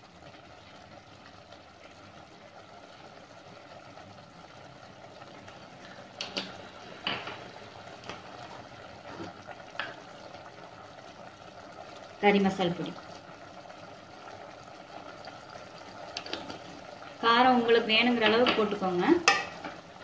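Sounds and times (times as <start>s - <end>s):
chicken simmering in a pot: 0.0s - 20.0s.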